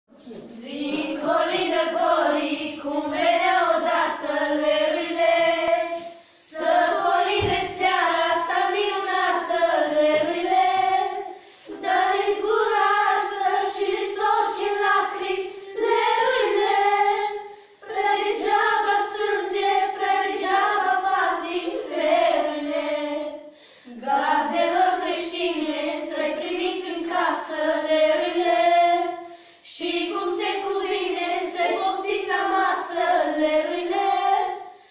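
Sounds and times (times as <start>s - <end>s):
girls singing unaccompanied: 0.2s - 34.9s.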